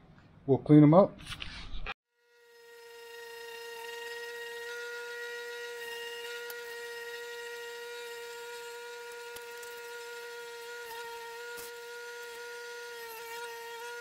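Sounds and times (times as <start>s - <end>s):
bench grinder wire wheel whine: 2.2s - 14.0s.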